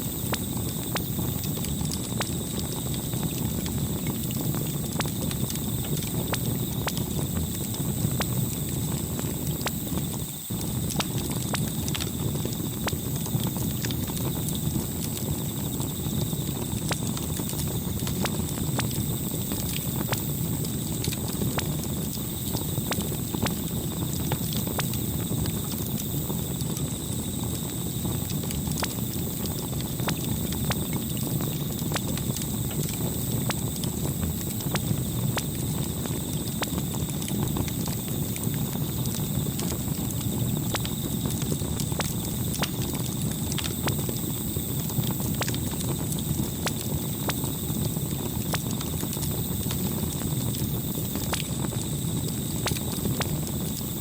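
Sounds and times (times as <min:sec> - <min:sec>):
burning wood noise: 0:00.0 - 0:54.0
campfire pops and snaps: 0:00.0 - 0:54.0.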